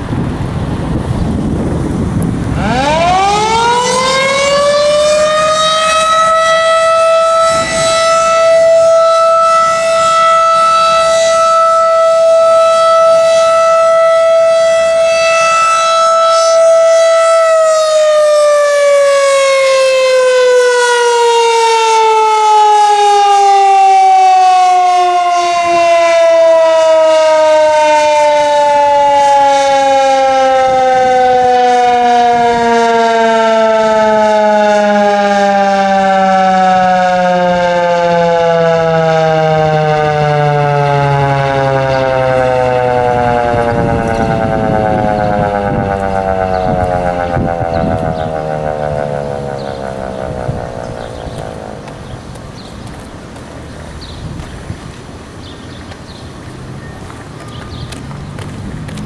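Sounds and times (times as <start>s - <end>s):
electromechanical siren: 1.5s - 53.1s.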